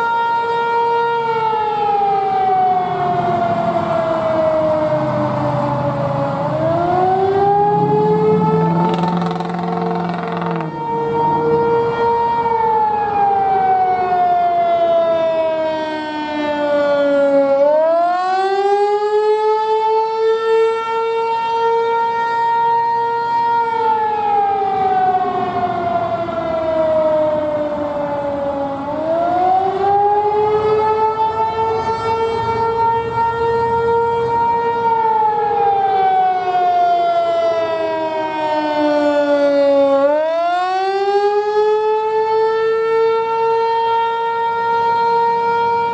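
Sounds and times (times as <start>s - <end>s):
warning siren wailing: 0.0s - 45.9s.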